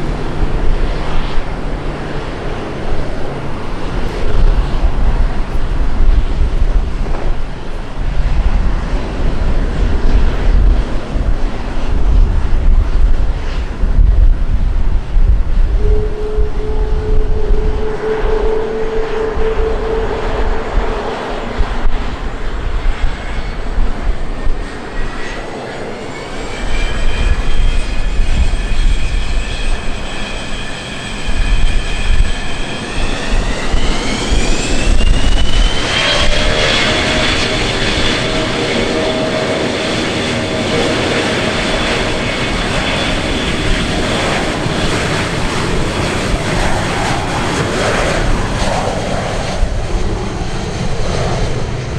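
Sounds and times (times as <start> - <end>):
deep engine rumble: 0.0 - 51.9
jet engine whine: 0.0 - 51.9.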